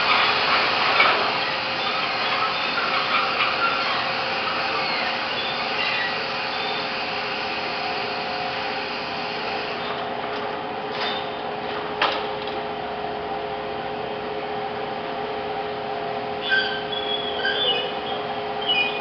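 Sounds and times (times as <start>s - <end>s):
furnace running: 0.0s - 19.0s.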